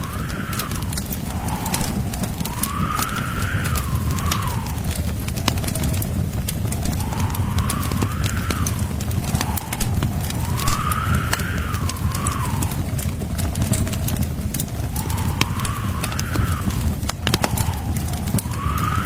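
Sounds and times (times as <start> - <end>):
wind howling and whistling: 0.0 - 19.0
wood fire crackling and popping: 0.0 - 19.0.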